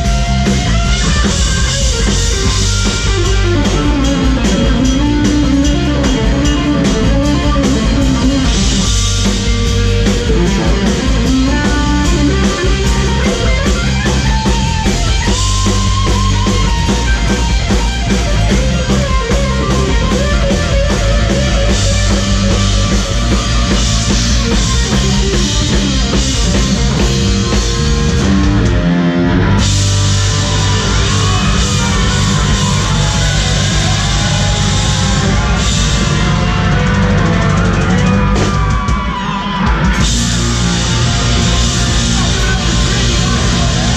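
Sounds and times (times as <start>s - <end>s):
electric guitar lead bending notes: 0.0s - 43.9s
rock band playing: 0.0s - 43.9s.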